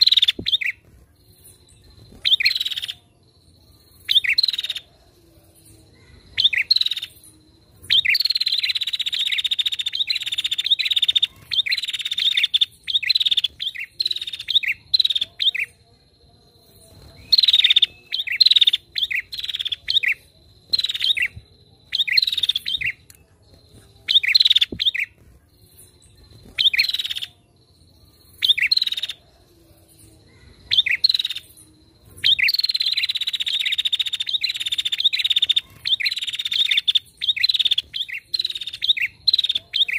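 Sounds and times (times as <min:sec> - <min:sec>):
bird high rapid chirping: 0:00.0 - 0:05.0, 0:05.6 - 0:29.2, 0:30.0 - 0:39.9.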